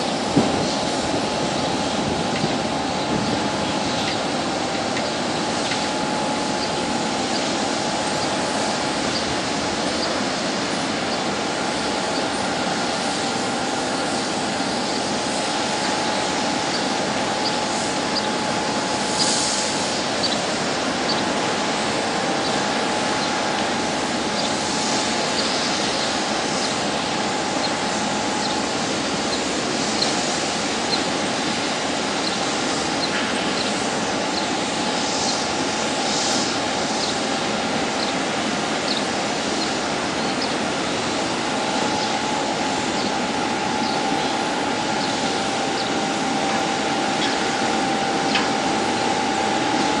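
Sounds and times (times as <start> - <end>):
constant whine: 0.0 - 50.0
industrial din of ship unloading: 0.0 - 50.0.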